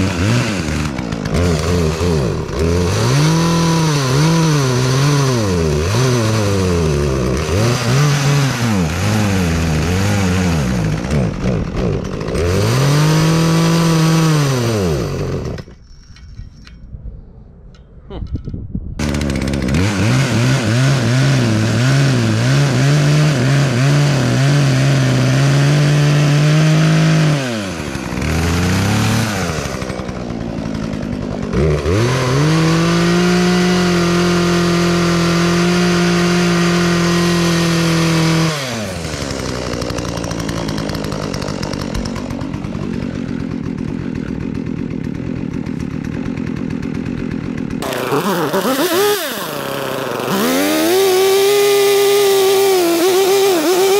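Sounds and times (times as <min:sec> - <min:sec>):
chainsaw revving and idling: 0:00.0 - 0:15.8, 0:19.0 - 0:53.9.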